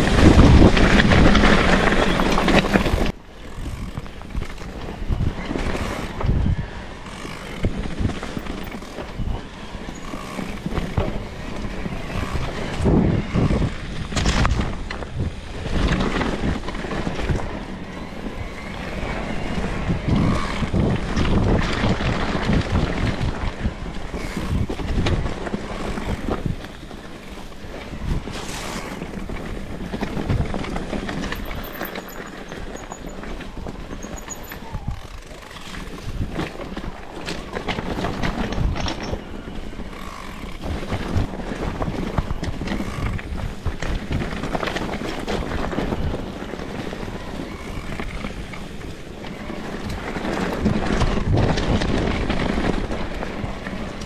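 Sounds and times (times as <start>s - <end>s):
bicycle jolts over ground: 0.0s - 54.0s
wind buffeting microphone: 0.0s - 54.0s.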